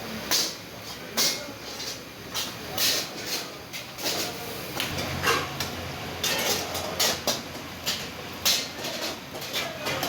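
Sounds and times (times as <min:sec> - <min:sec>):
metal clanks and scrapes: 0:00.3 - 0:10.0.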